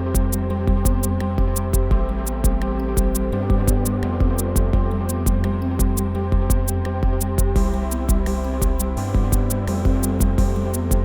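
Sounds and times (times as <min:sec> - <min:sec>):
synth chords: 0:00.0 - 0:11.0.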